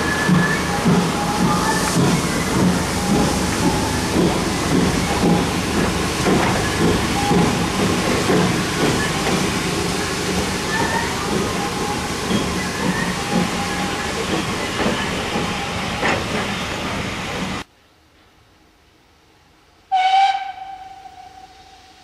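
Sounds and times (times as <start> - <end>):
steam engine hissing: 0.0 - 17.6
train wheels rumbling over rails: 0.0 - 17.7.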